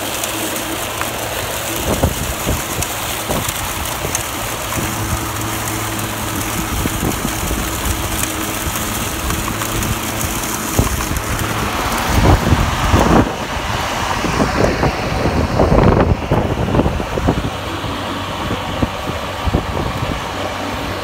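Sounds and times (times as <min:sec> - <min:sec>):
lawn mower humming: 0:00.0 - 0:21.0.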